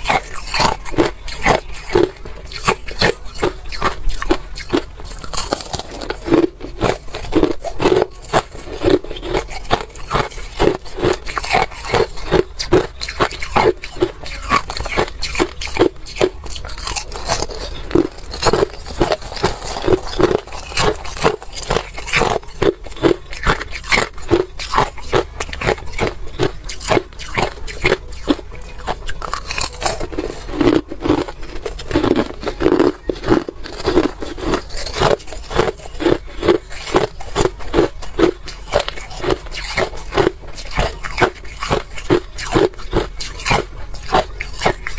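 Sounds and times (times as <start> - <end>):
crushed ice crunching: 0.0 - 44.9.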